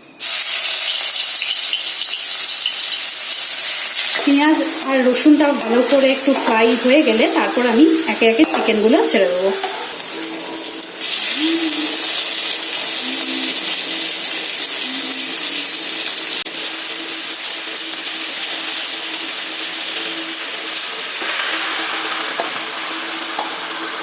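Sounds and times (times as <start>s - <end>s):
chicken sizzling in hot oil: 0.2s - 24.0s.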